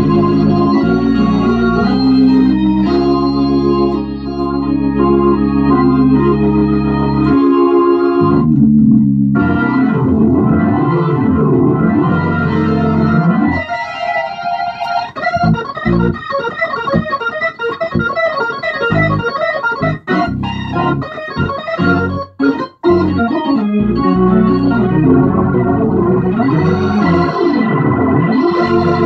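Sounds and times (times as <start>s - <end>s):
organ chords through rotating speaker: 0.0s - 29.0s.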